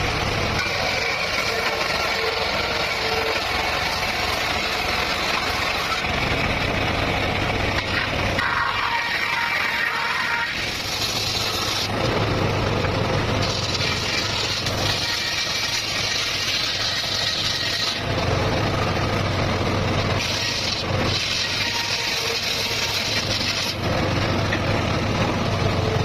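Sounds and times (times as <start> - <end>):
circular saw cutting wood: 0.0 - 26.0.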